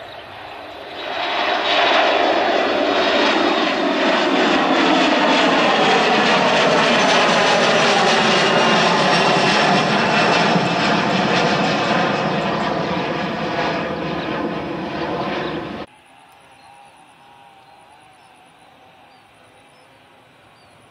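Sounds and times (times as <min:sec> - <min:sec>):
airliner engines roaring: 0:00.0 - 0:20.9.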